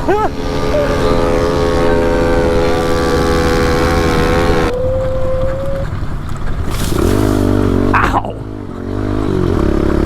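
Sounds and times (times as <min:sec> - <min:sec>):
pit bike engine revving: 0:00.0 - 0:10.0.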